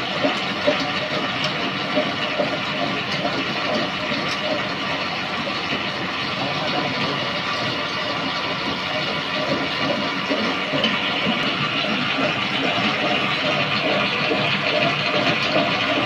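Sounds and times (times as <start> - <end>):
extruding machine running: 0.0 - 16.0.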